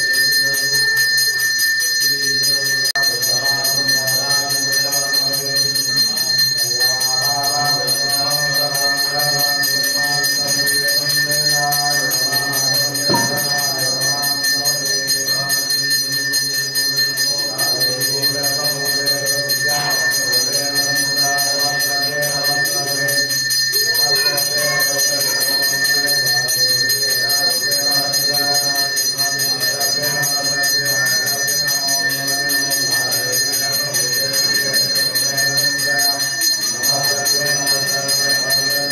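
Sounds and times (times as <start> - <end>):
bell ringing: 0.0 - 38.9.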